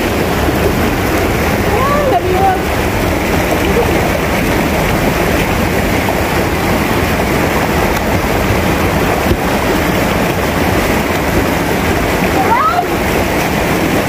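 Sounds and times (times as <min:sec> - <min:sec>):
river rushing over rocks: 0:00.0 - 0:14.0.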